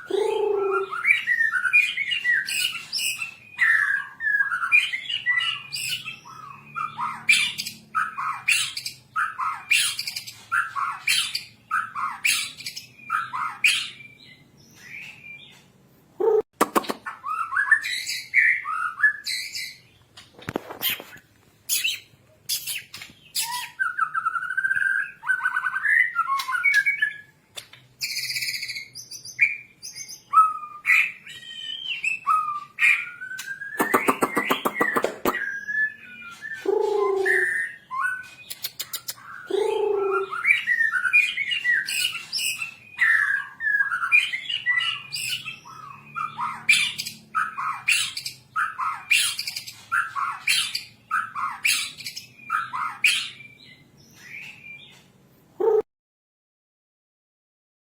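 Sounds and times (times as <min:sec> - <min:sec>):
bird singing whistles and trills: 0:00.0 - 0:15.6, 0:17.1 - 0:19.9, 0:20.7 - 0:27.4, 0:28.0 - 0:55.0.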